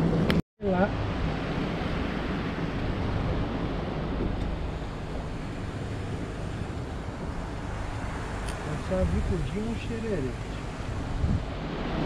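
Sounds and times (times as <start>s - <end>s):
sea water rushing: 0.0s - 12.0s
wind on microphone: 0.0s - 12.0s.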